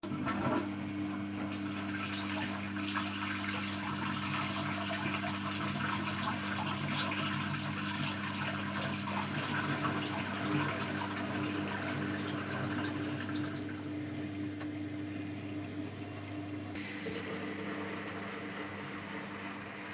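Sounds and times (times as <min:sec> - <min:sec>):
drain pump humming: 0:00.0 - 0:19.9.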